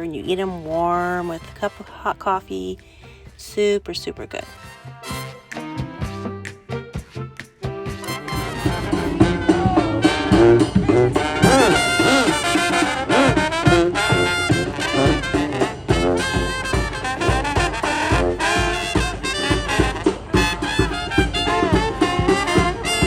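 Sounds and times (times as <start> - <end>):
swing jazz with brass: 0.0 - 2.8, 4.2 - 23.0.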